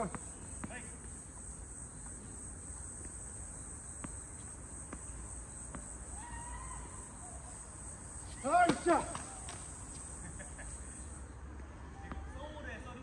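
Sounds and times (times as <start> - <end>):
insects trilling: 0.0 - 11.5.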